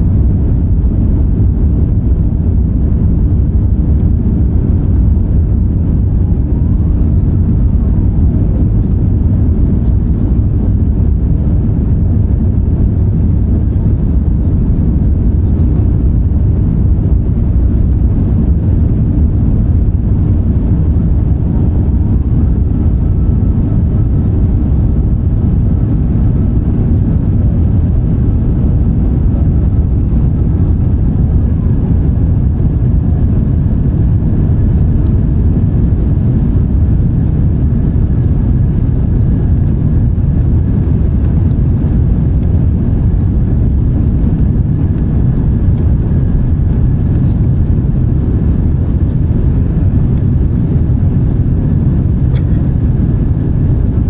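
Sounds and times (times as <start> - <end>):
aircraft cabin engine roar: 0.0 - 54.0.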